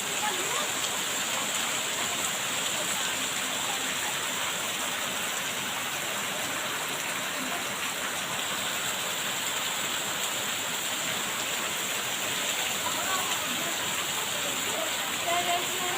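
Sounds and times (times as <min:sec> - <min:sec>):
steady rain hiss: 0:00.0 - 0:15.9.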